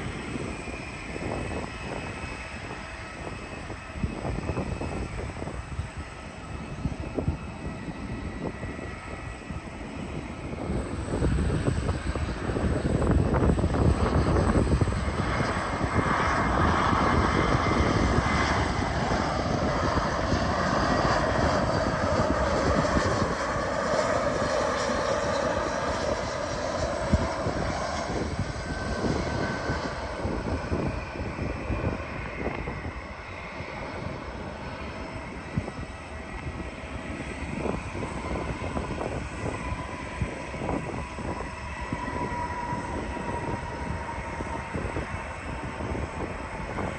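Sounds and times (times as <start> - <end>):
jet airliner engine whine: 0.0 - 46.9.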